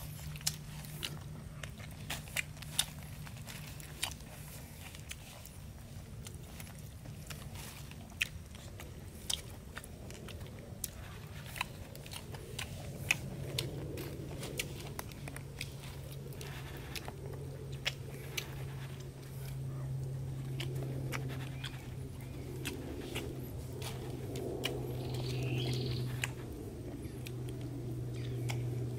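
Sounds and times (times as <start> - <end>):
low hum: 0.0 - 28.9
man chewing food: 0.0 - 28.9.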